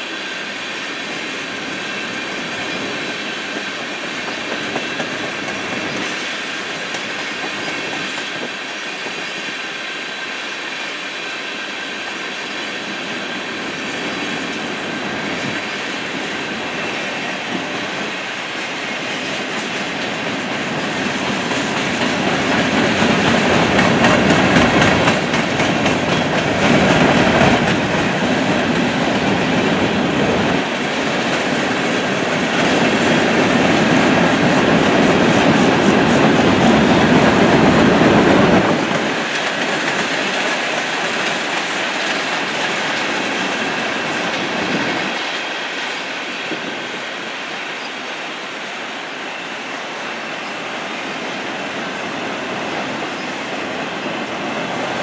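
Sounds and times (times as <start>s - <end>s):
freight train cars rolling: 0.0s - 55.0s.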